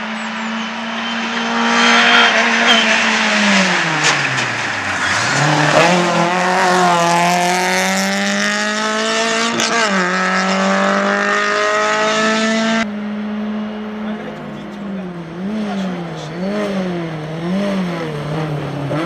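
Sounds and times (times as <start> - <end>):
car engine pulling hard: 0.0 - 19.0.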